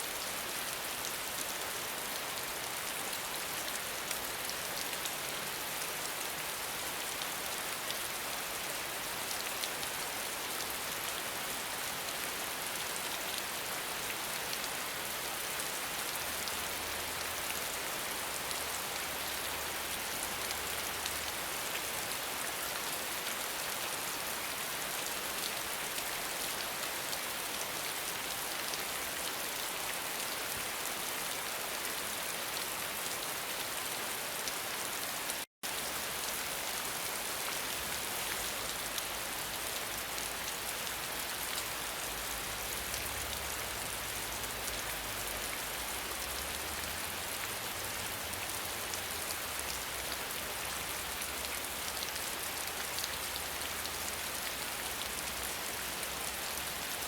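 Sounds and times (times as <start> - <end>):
dense rain falling: 0.0 - 57.0.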